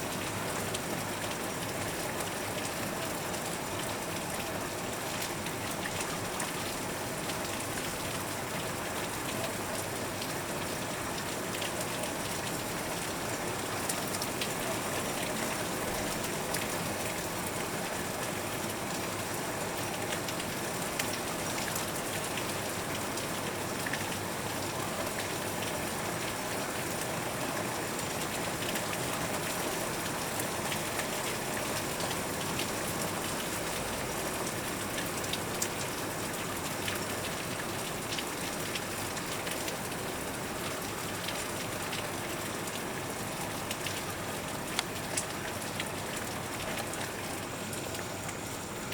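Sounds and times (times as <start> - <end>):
heavy rain through window: 0.1 - 48.9.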